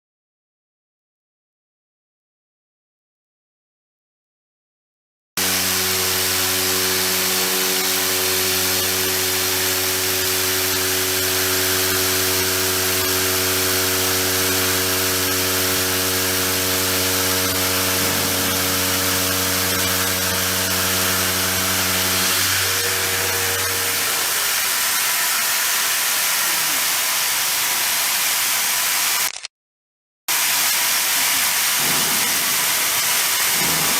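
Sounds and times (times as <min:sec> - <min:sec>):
milling machine hum: 0:05.4 - 0:29.0, 0:30.3 - 0:33.9
loud even hiss: 0:05.4 - 0:29.3, 0:30.3 - 0:33.9.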